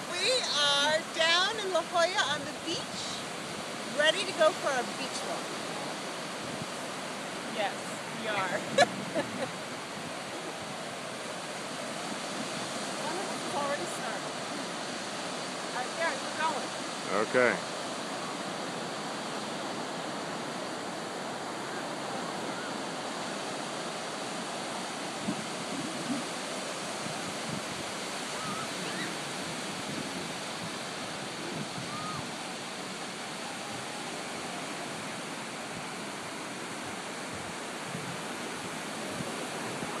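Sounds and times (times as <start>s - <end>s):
ocean surf breaking on beach: 0.0s - 40.0s.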